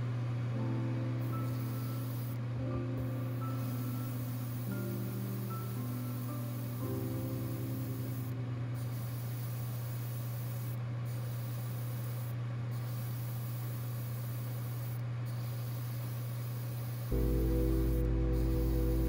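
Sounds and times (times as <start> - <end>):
low machine hum: 0.0 - 19.0
airbrush spraying hiss: 1.2 - 19.0.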